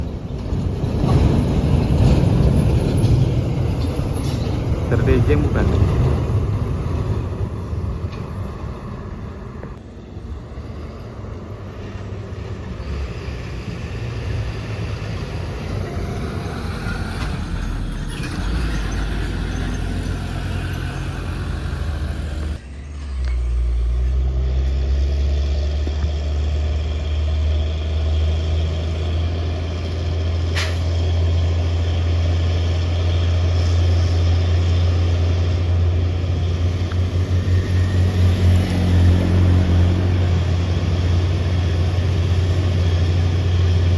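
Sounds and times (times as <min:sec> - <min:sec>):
truck diesel engine labouring: 0:00.0 - 0:43.9.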